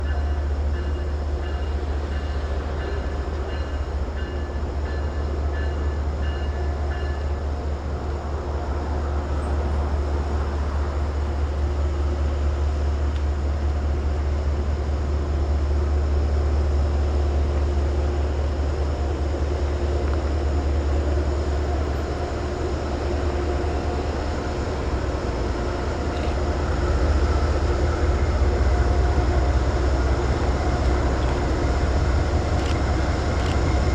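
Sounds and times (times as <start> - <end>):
diesel locomotive engines rumbling: 0.0 - 33.9.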